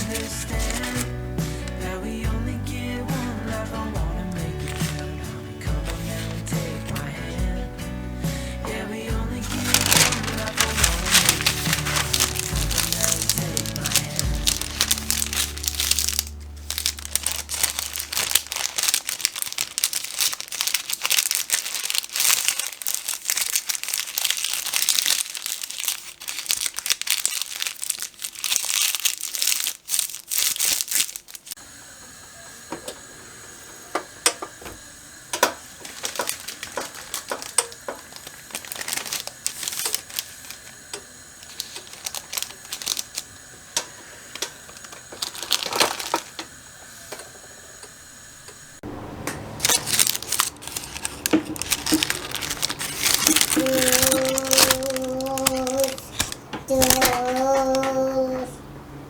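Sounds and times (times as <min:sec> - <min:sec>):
packaging crinkling: 0:00.0 - 0:02.1, 0:03.5 - 0:07.4, 0:09.3 - 0:31.6, 0:34.2 - 0:47.2, 0:49.6 - 0:58.4.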